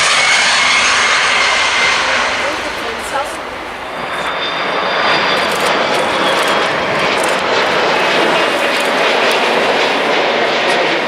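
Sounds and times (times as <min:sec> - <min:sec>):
faint high whine: 0:00.0 - 0:10.8
jet engines rushing: 0:00.0 - 0:11.0.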